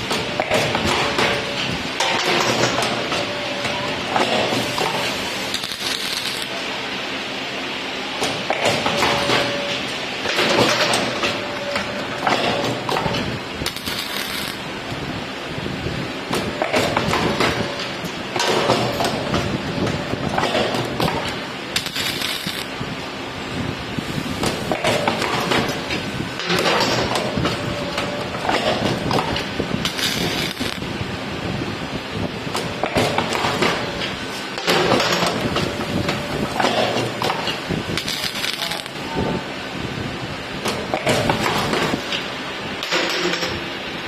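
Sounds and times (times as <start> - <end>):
wire bending machine running: 0.0 - 42.0.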